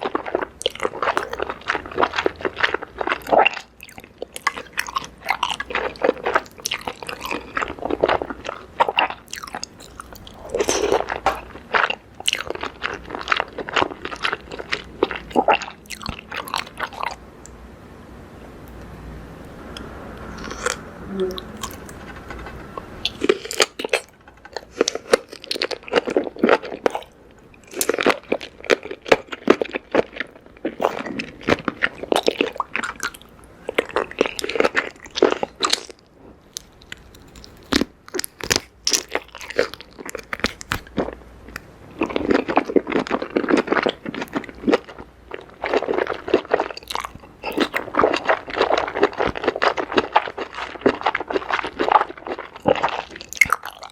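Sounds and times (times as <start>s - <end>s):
chewing food: 0.0s - 17.6s, 19.7s - 53.9s.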